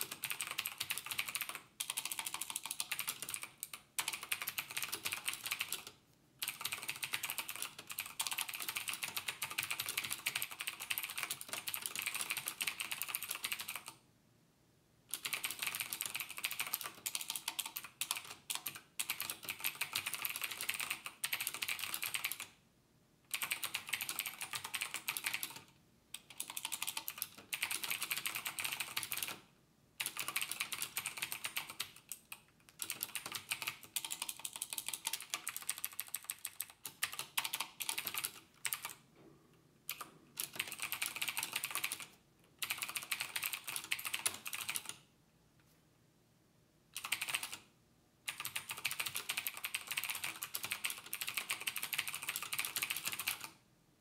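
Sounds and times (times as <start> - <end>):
fast typing on keyboard: 0.0 - 14.0, 15.1 - 22.5, 23.3 - 29.4, 30.0 - 39.0, 39.9 - 45.0, 47.0 - 47.6, 48.3 - 53.6.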